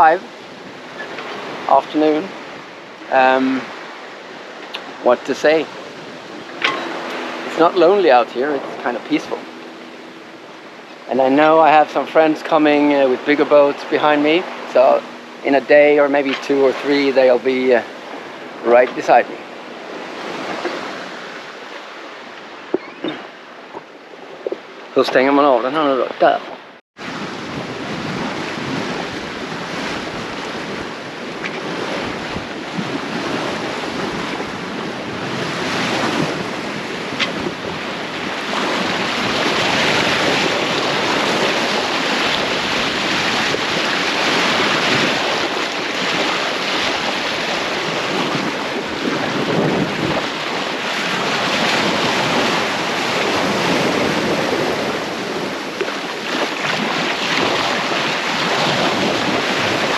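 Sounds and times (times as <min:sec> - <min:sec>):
sea water rushing and splashing: 0:00.0 - 0:59.9
wind buffeting microphone: 0:00.0 - 0:59.9.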